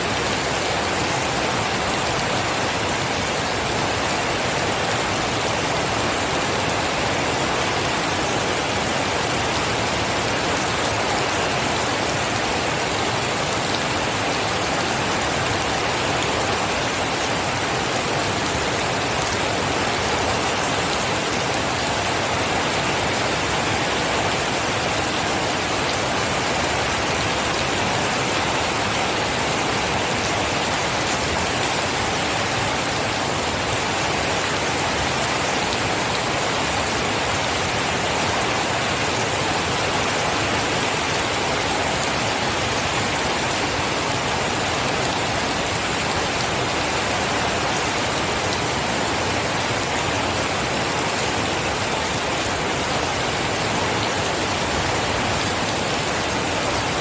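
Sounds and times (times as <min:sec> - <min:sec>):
heavy rainfall: 0:00.0 - 0:57.0.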